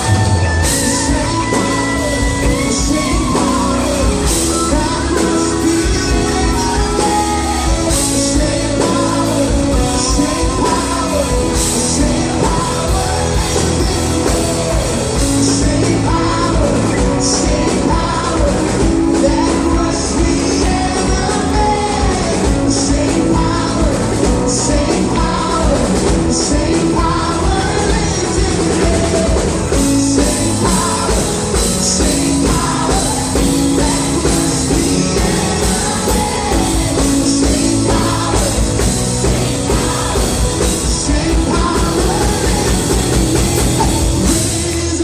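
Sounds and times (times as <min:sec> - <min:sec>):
person singing: 0:00.0 - 0:45.0
steady drum beat: 0:00.0 - 0:45.0
worship band playing: 0:00.0 - 0:45.0.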